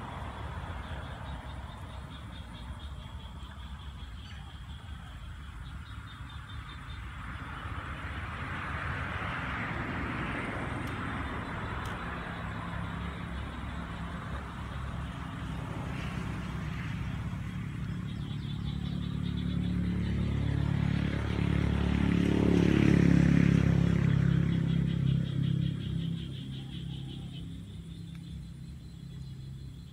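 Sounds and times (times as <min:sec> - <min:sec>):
vehicle engine rumbling: 0:00.0 - 0:29.9.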